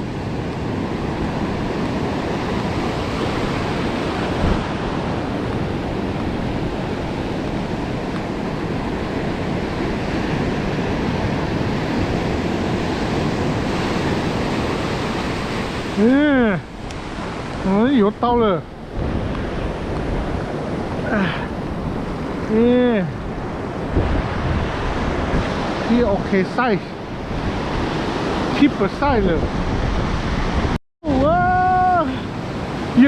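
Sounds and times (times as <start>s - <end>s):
ocean surf breaking: 0.0s - 33.0s
wind buffeting microphone: 0.0s - 33.0s.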